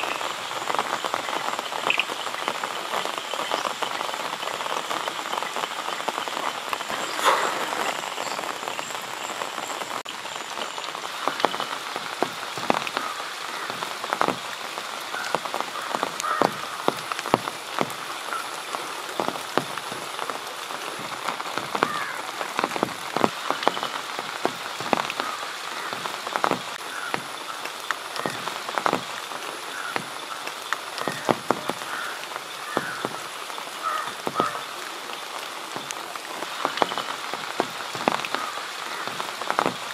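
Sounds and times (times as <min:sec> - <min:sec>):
big raindrops hitting close by: 0:00.0 - 0:39.9
frogs croaking: 0:00.0 - 0:39.9
steady rain falling: 0:00.0 - 0:39.9.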